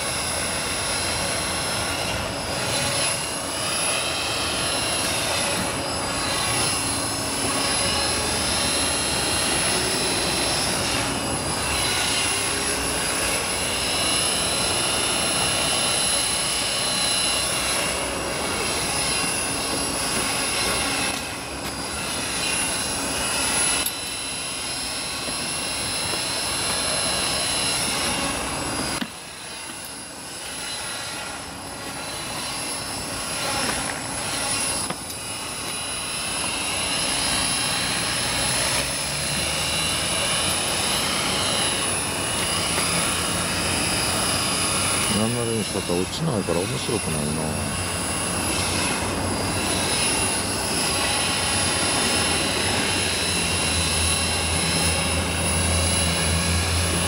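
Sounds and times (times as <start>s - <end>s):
helicopter rotor and motor whine: 0.0s - 57.0s
high steady whine: 0.0s - 57.0s.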